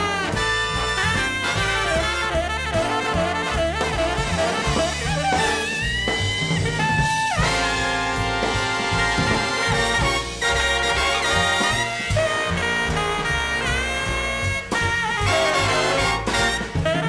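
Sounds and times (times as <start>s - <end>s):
upbeat jazz swing music: 0.0s - 17.0s.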